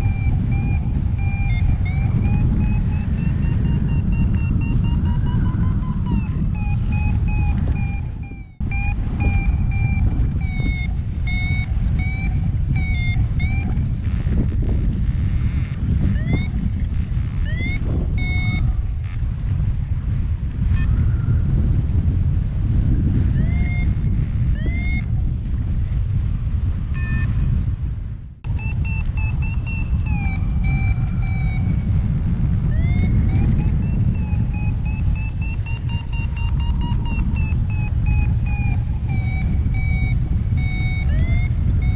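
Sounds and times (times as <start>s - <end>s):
variometer short pitched beeps: 0.0s - 14.3s, 15.4s - 16.6s, 17.2s - 18.8s, 20.7s - 21.4s, 23.3s - 25.2s, 26.9s - 27.5s, 28.5s - 41.9s
wind rushing on microphone: 0.0s - 41.9s.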